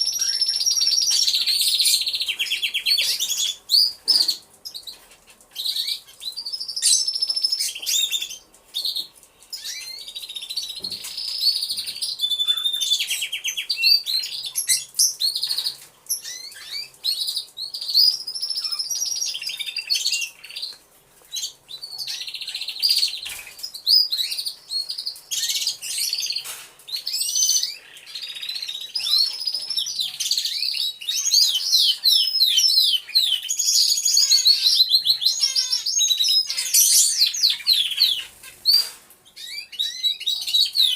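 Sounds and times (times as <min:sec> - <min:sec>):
canaries singing: 0:00.0 - 0:40.9.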